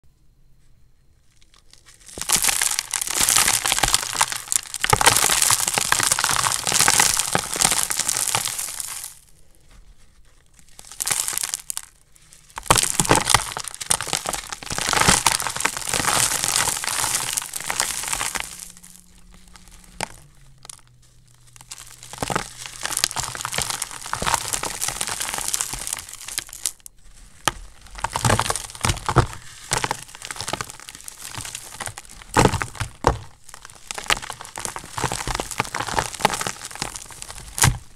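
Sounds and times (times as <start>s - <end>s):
chalk crumbling by hand: 1.2s - 37.9s.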